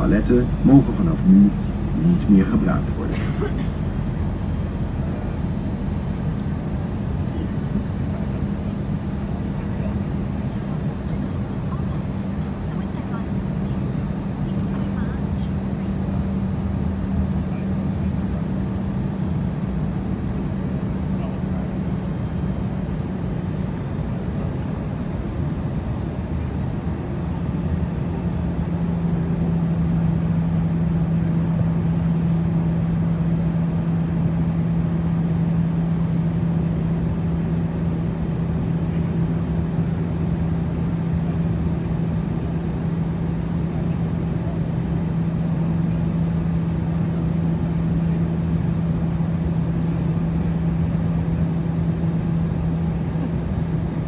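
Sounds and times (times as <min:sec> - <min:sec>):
airflow rushing in cabin: 0:00.0 - 0:54.0
low engine drone: 0:00.0 - 0:54.0.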